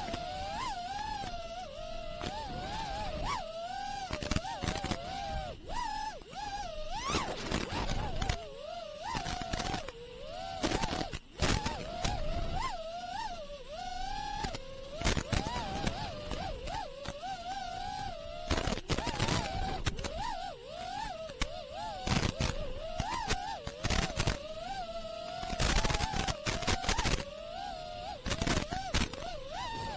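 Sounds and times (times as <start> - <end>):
drone motors whining: 0.0 - 29.9.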